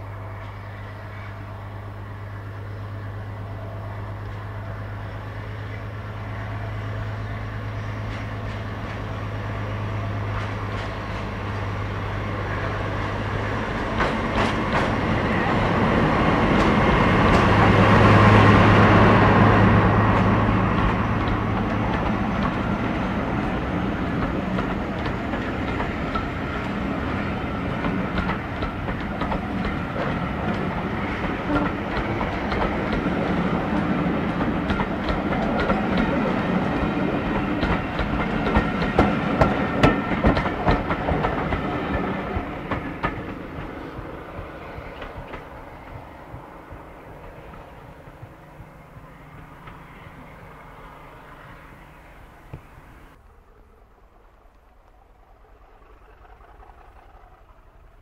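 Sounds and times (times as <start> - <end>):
diesel train engine passing: 0.0 - 58.0
rolling rumble of train: 0.0 - 58.0
wheels clicking over rail joints: 7.8 - 58.0.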